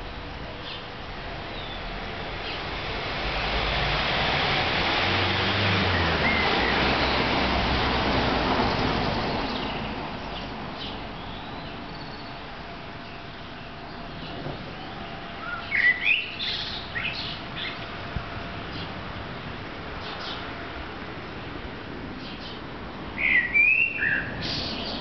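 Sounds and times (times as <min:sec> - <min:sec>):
outdoor rush of noise: 0:00.0 - 0:25.0.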